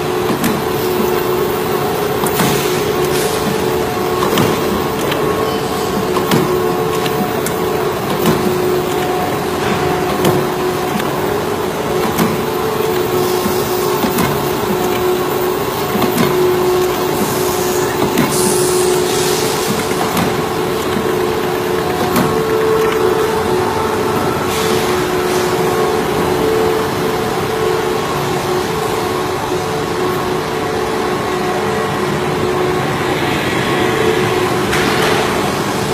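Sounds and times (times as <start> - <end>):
scattered clicks and knocks: 0.0 - 30.5, 34.3 - 35.9
machinery humming: 0.0 - 35.9.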